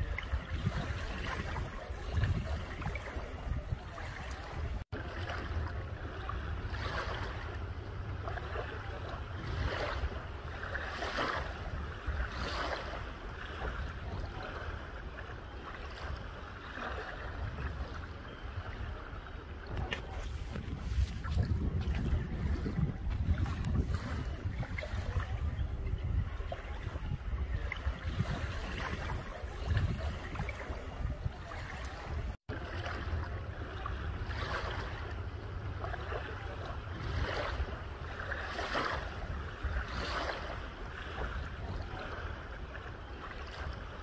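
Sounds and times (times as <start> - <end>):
waves lapping on sand beach: 0.0 - 44.0
wind rumbling on microphone: 0.0 - 44.0.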